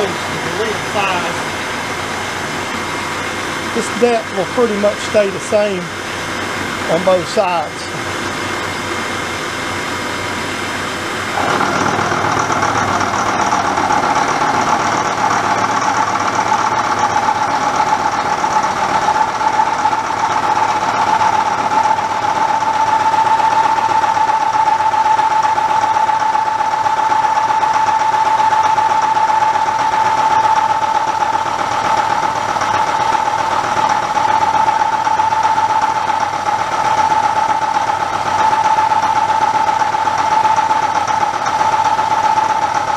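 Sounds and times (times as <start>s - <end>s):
milling cutter whine: 0.0s - 42.9s.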